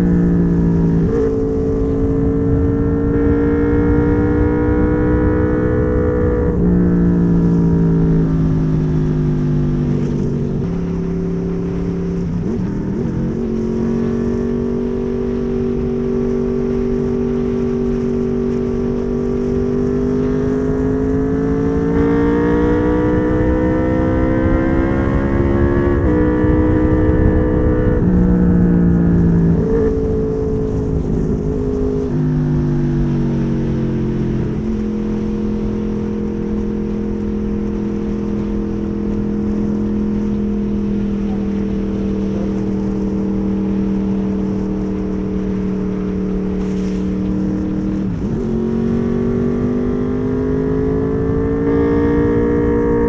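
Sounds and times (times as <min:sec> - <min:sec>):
motorcycle engine changing gears: 0:00.0 - 0:53.0.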